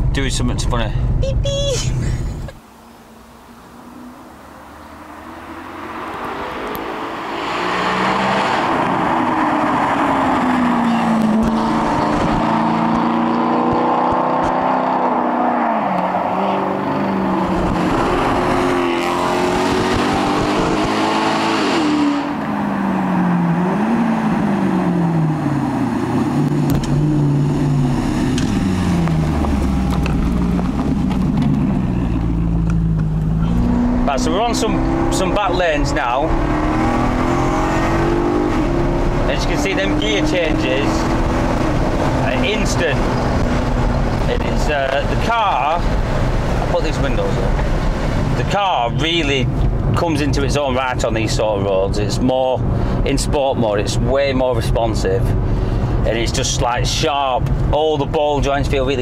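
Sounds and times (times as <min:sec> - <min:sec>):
car engine accelerating: 0:02.0 - 0:59.0.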